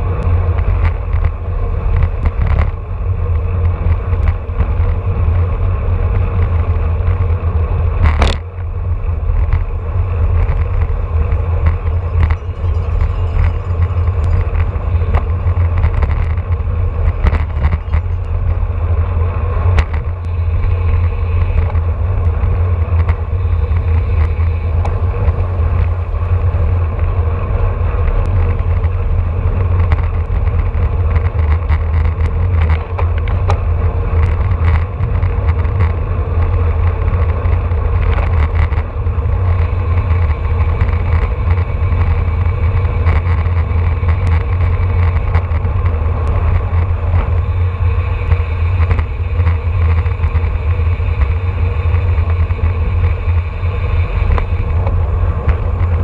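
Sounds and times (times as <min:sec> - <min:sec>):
tyre noise on road: 0:00.0 - 0:56.0
wind rushing over microphone: 0:00.0 - 0:56.0.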